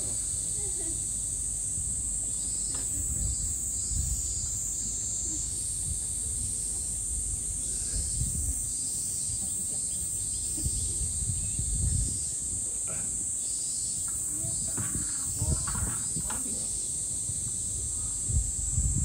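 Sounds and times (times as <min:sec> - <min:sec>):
cicada chorus drone: 0:00.0 - 0:19.0.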